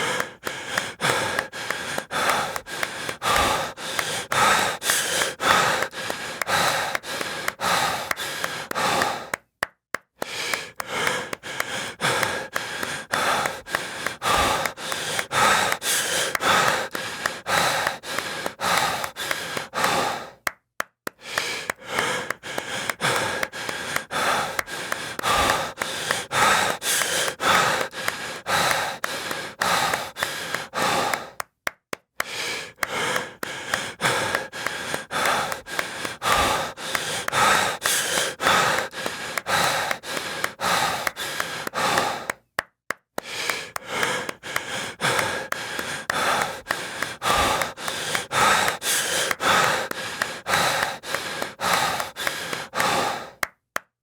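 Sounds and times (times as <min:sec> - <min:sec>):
heavy breathing and gasps: 0:00.0 - 0:09.5, 0:10.2 - 0:20.5, 0:21.1 - 0:31.6, 0:32.2 - 0:42.5, 0:43.2 - 0:53.6
quick even clapping: 0:00.0 - 0:53.9.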